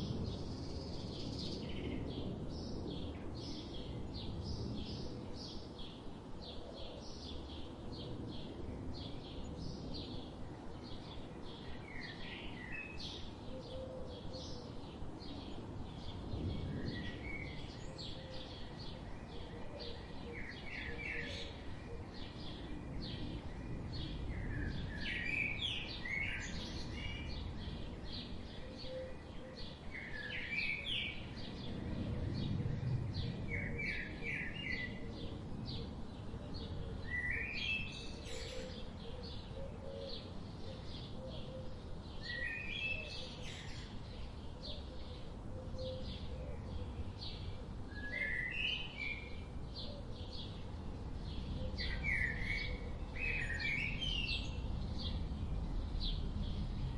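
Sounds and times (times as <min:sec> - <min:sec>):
wild birds chirping: 0:00.0 - 0:56.9.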